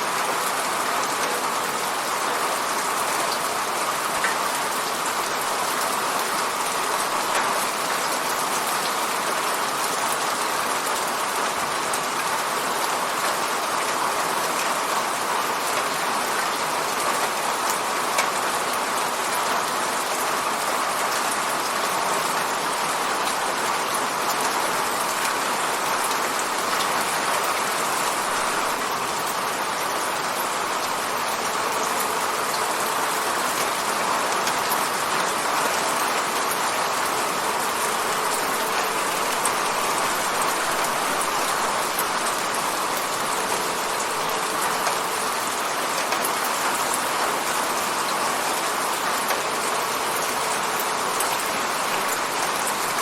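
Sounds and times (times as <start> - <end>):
rain against a window: 0.0 - 53.0.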